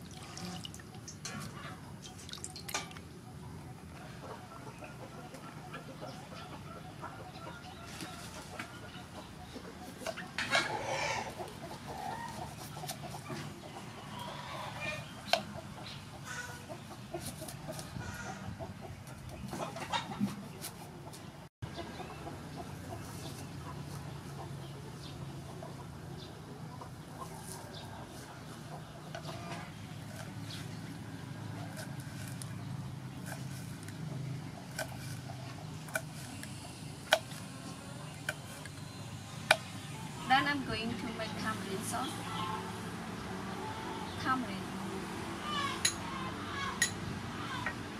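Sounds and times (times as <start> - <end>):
chickens clucking: 0.4 - 44.4.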